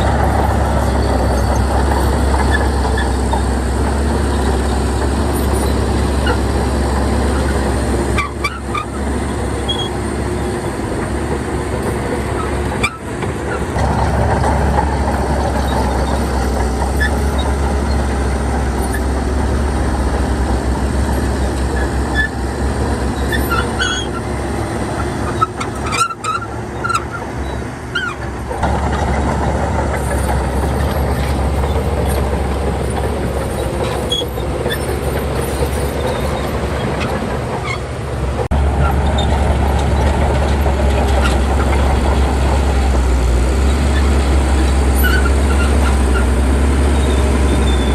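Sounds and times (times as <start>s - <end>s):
high squeaks and clanks: 0.0s - 10.6s, 11.8s - 19.6s, 21.0s - 42.7s, 43.6s - 47.9s
heavy diesel machinery running: 0.0s - 47.9s.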